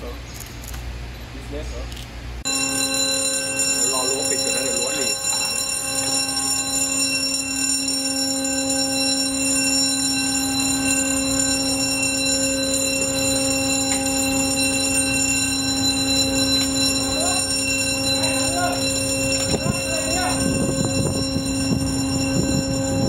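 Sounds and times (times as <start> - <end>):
machinery hum: 0.0 - 23.0.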